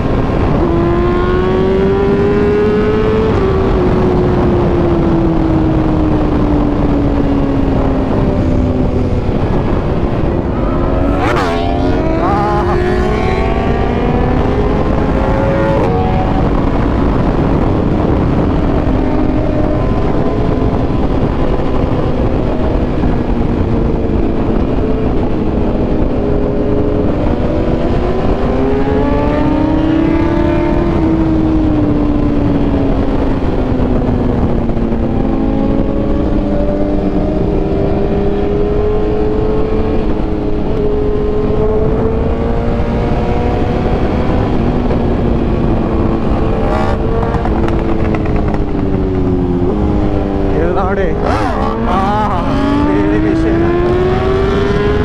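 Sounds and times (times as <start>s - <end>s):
wind rush on microphone: 0.0s - 55.0s.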